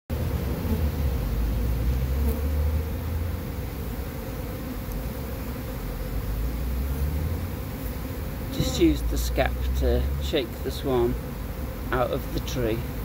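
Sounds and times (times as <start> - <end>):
bee swarm buzzing: 0.1 - 13.0.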